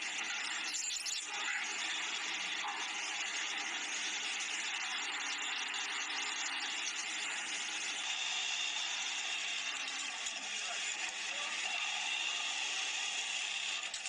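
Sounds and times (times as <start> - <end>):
industrial sewing machines running: 1.4 - 14.0.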